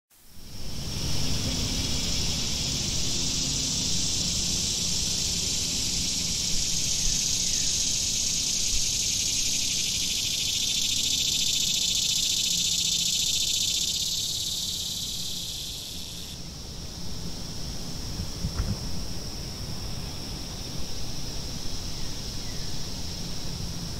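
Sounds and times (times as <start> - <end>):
cicadas buzzing: 0.2 - 23.9.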